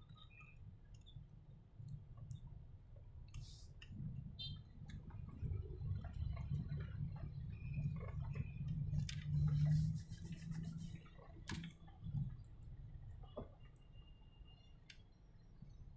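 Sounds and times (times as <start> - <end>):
light clicks and ticks: 0.0 - 13.9
low car cabin rumble: 0.0 - 14.0.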